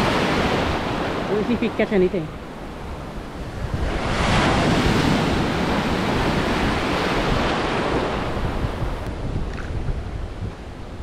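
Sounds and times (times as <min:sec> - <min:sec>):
wave washing over rocks: 0:00.0 - 0:11.0.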